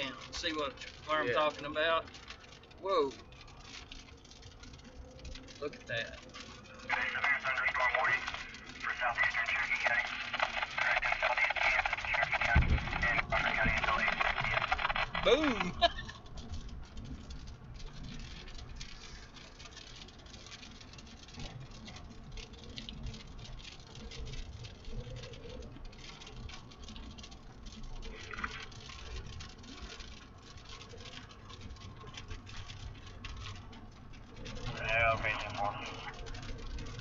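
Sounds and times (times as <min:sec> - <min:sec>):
low road rumble: 0:00.0 - 0:37.0
rain pattering on vehicle: 0:00.0 - 0:37.0.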